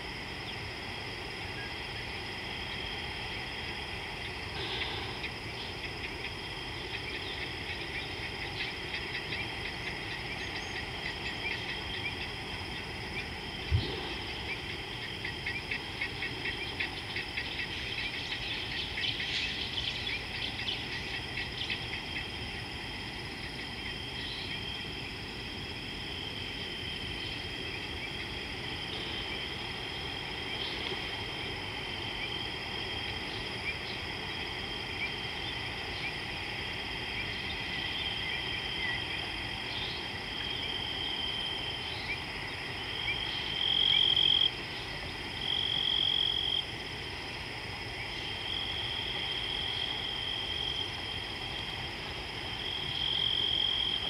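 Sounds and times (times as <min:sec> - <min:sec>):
high-pitched insect trill: 0:00.0 - 0:54.0.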